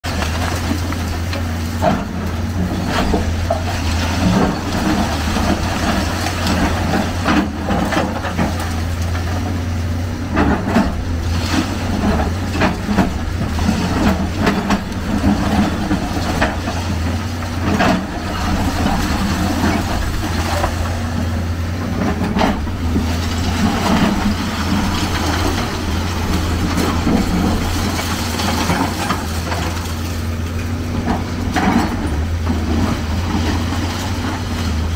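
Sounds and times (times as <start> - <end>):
concrete cracking and crunching: 0.0 - 34.9
excavator diesel engine running: 0.0 - 34.9.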